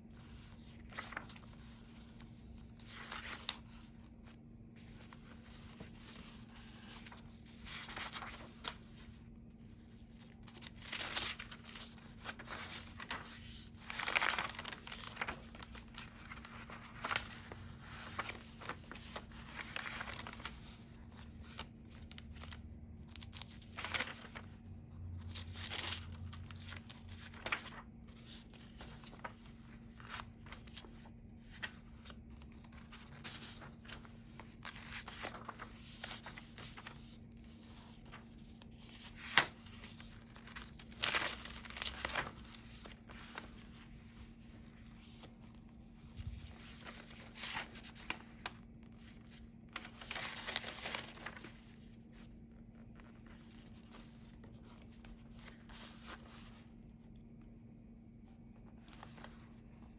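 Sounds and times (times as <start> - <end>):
paper pages turning: 0.1 - 57.4, 58.5 - 59.9.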